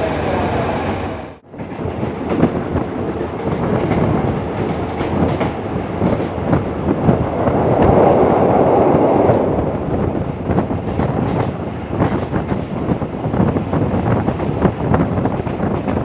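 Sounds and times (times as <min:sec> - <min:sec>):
train carriage rumbling on rails: 0:00.0 - 0:16.0
wind buffeting microphone: 0:01.3 - 0:16.0.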